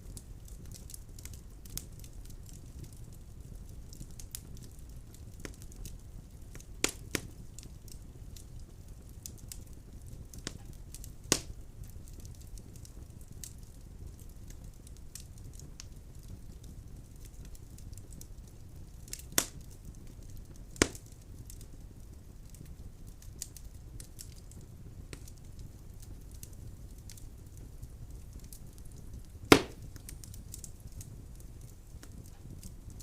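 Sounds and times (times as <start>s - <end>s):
fire crackling in fireplace: 0.0s - 33.0s
firewood popping: 0.0s - 33.0s.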